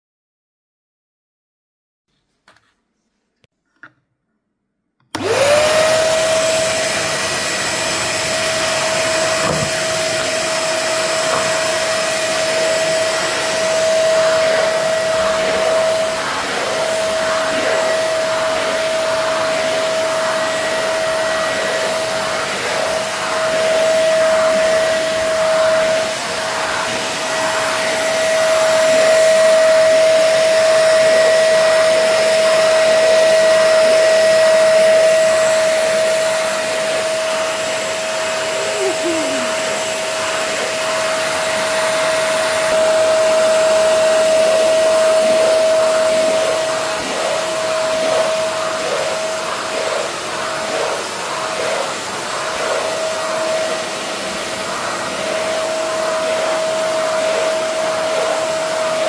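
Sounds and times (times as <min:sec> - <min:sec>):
vacuum cleaner on carpet: 0:05.1 - 0:59.0.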